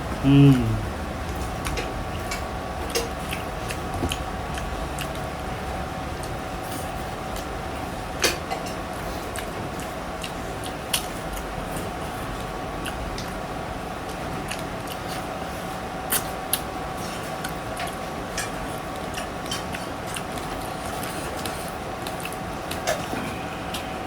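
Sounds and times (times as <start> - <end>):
faint hum: 0.0 - 24.0
chewing and eating: 1.2 - 23.9.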